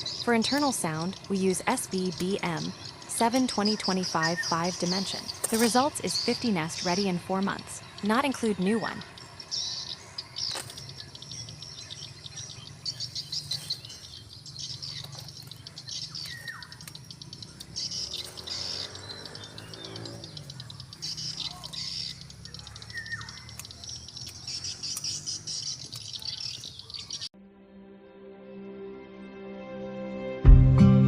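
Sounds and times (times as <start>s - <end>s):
steady low hum: 0.0s - 26.7s
swiftlets chirping: 0.0s - 27.3s.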